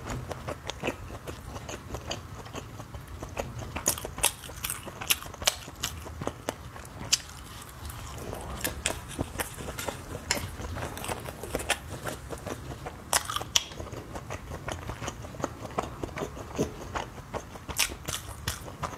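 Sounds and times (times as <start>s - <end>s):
mouth clicks and crunches: 0.0s - 18.9s
person chewing and biting food: 0.0s - 18.9s.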